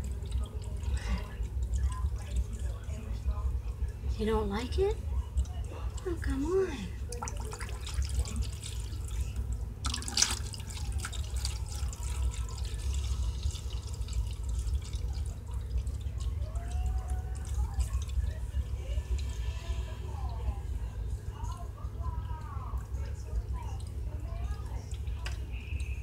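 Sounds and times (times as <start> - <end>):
water fountain trickling: 0.0 - 26.0.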